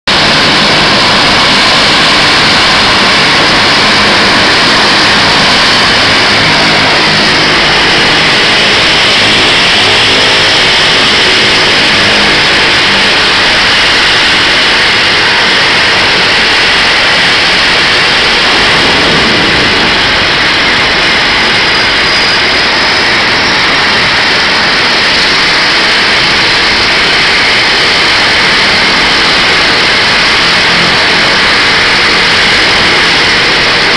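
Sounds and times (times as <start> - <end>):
turboprop engines idling: 0.1 - 33.9.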